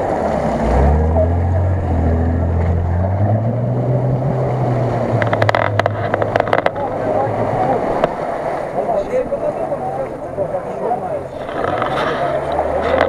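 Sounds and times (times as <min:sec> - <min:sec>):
wheels churning through mud: 0:00.0 - 0:13.0.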